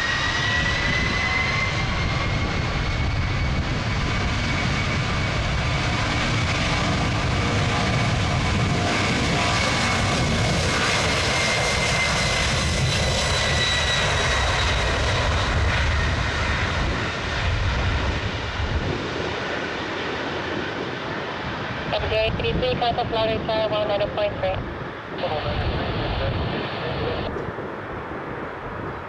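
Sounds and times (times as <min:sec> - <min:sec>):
jet engines with high whine: 0:00.0 - 0:29.0.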